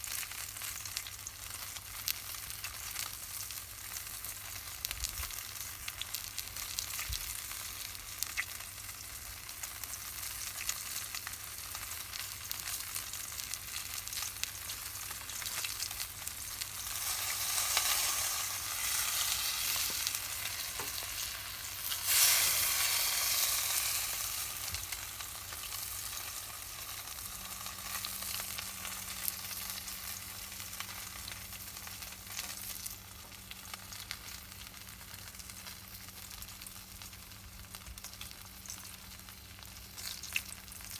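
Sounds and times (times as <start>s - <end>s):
campfire crackling and sizzling: 0.0s - 40.9s.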